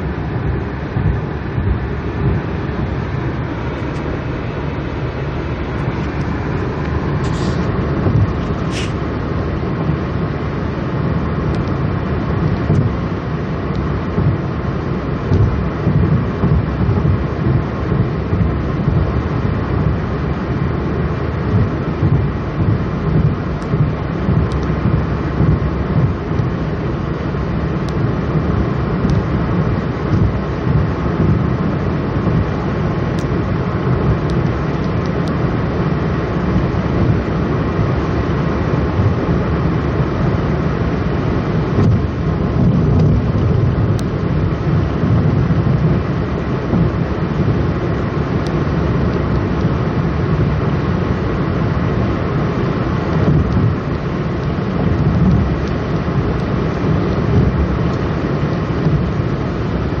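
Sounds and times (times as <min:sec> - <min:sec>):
car engine drone: 0:00.0 - 1:00.0
road and tyre noise in a car: 0:00.0 - 1:00.0.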